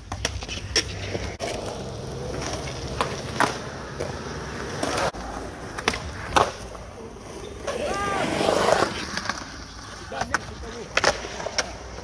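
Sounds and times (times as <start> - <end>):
skateboard clacking on concrete: 0.0 - 12.0
skateboard wheels rolling on concrete: 0.0 - 12.0.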